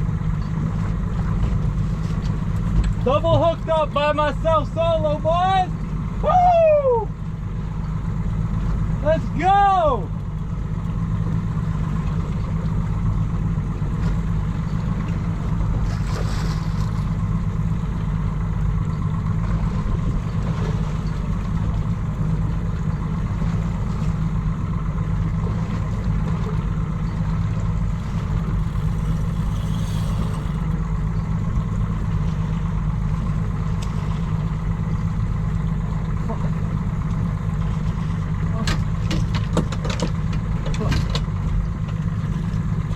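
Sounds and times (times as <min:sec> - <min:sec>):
boat engine humming: 0:00.0 - 0:42.9
wind and water noise: 0:00.0 - 0:42.9.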